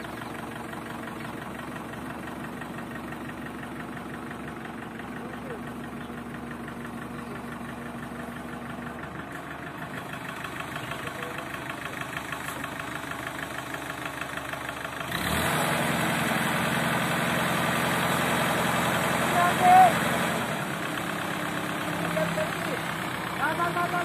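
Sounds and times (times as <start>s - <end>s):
tractor diesel engine chugging: 0.0s - 24.0s.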